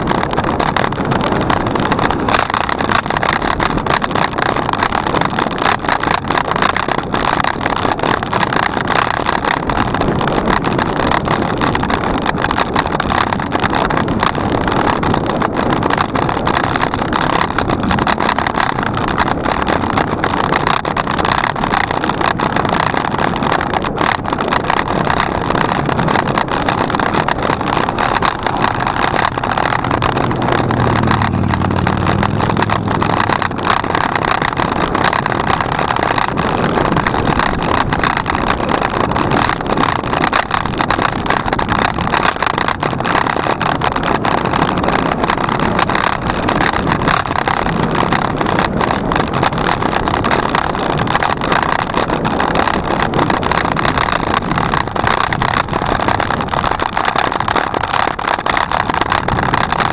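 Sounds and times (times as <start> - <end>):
bicycle tyres on path: 0.0 - 59.9
small knocks and rattles: 0.0 - 59.9
wind on microphone: 0.0 - 59.9.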